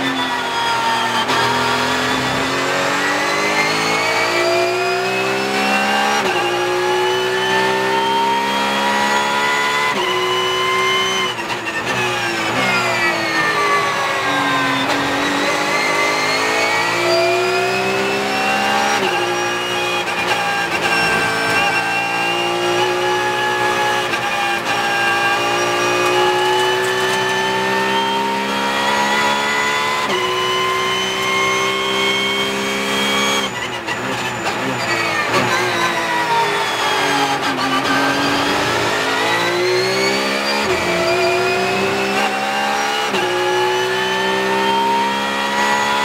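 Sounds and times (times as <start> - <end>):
race car engine revving: 0.0 - 46.0.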